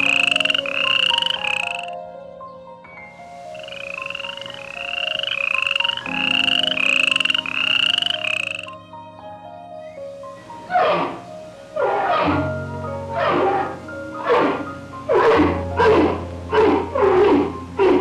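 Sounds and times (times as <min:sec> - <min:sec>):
frog croaking: 0:00.0 - 0:02.0, 0:03.3 - 0:08.8, 0:09.8 - 0:18.0
soft background music: 0:00.0 - 0:18.0.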